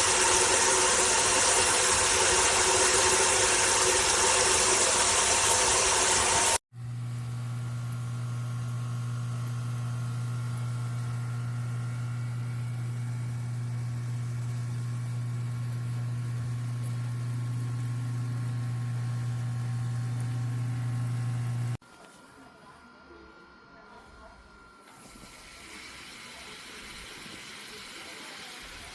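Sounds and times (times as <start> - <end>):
shower pump electric hum: 0.0 - 22.3, 24.5 - 28.9.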